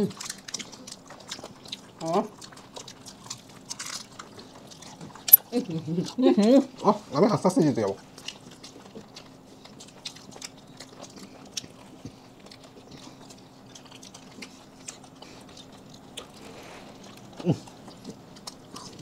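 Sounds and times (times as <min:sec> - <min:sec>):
faint steady hum: 0:00.0 - 0:19.0
people chewing food: 0:00.0 - 0:19.0.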